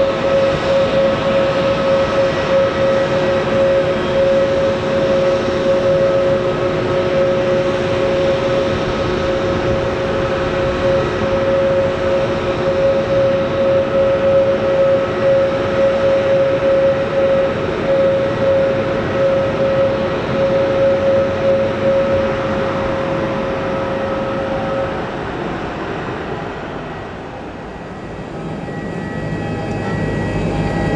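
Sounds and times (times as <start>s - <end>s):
jet engines idling whine: 0.0s - 30.9s.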